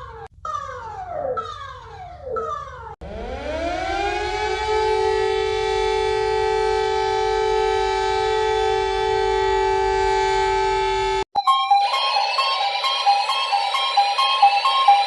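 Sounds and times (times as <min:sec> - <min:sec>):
two-tone warning siren wail: 0:00.0 - 0:15.0.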